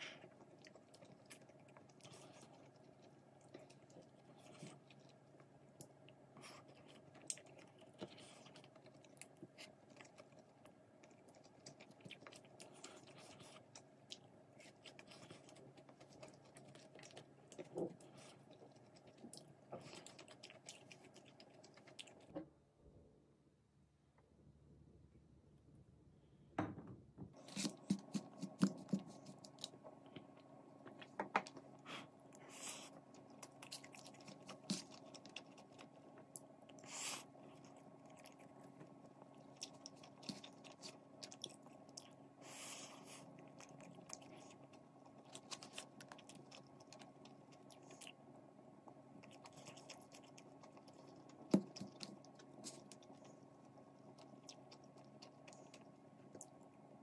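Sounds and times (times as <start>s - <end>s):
chewing: 0.0s - 22.4s, 27.4s - 57.0s
faint steady hum: 0.0s - 57.0s.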